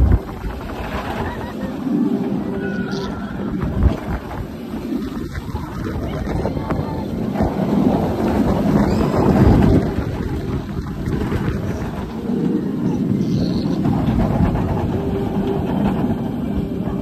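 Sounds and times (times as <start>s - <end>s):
roller coaster wheels rumbling: 0.0s - 17.0s
wind over microphone: 0.0s - 17.0s.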